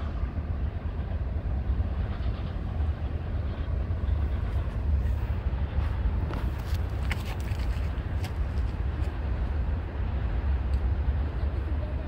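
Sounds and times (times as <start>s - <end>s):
freight train rumbling by: 0.0s - 12.0s.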